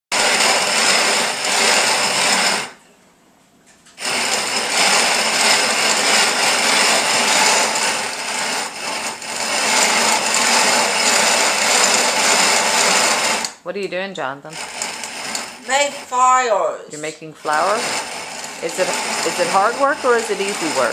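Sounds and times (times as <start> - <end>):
hand-cranked grain mill grinding: 0.1 - 2.8, 4.0 - 13.6, 14.6 - 20.9.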